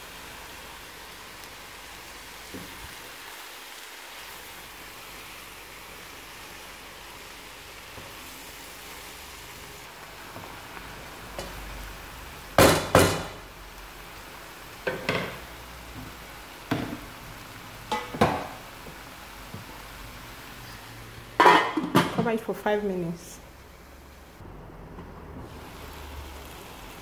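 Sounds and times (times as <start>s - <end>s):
vegetables sizzling: 0.0s - 27.0s.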